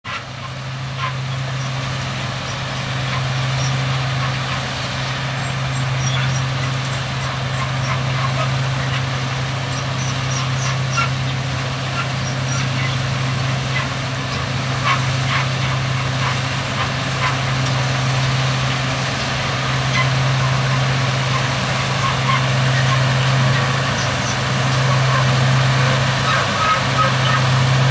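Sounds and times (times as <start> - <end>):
tractor diesel engine hum: 0.0 - 27.9
truck engine running: 0.0 - 27.9
harvester clattering: 0.1 - 27.9.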